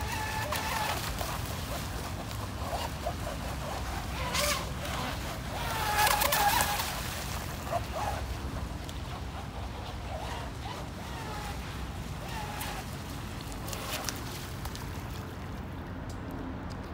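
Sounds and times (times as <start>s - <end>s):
model boat motor running: 0.0s - 14.3s
water wake sloshing: 0.0s - 16.4s.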